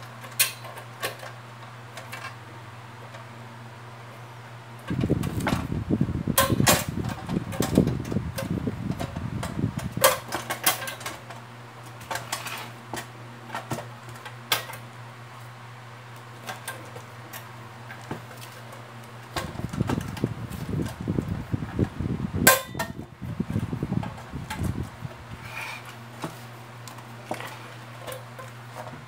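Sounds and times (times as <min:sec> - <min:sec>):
rumbling handling noise: 0:00.0 - 0:29.0
steady low hum: 0:00.0 - 0:29.0.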